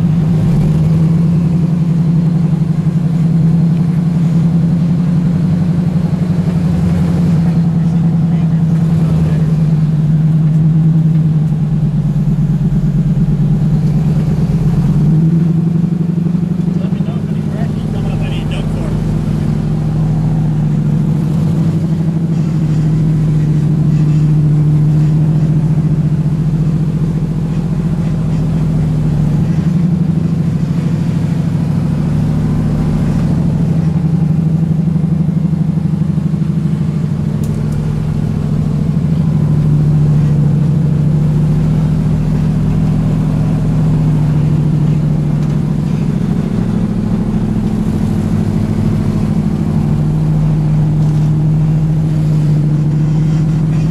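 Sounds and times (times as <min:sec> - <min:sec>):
vehicle engine running low: 0:00.0 - 0:53.9.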